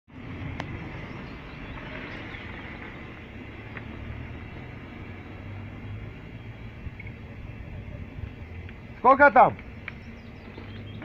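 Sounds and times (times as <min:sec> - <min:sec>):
low mechanical hum with hiss: 0:00.2 - 0:11.0.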